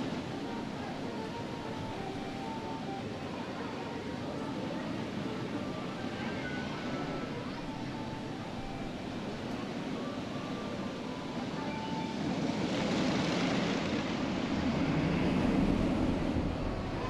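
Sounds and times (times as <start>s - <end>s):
roller coaster rushing on track: 0.0s - 17.0s.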